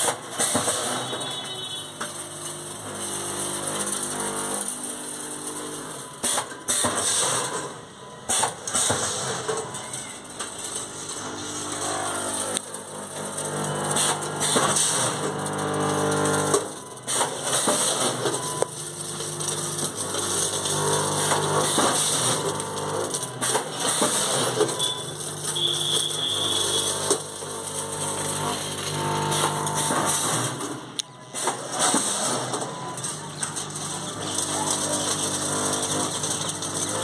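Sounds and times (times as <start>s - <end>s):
packing machine humming: 0.0s - 37.0s.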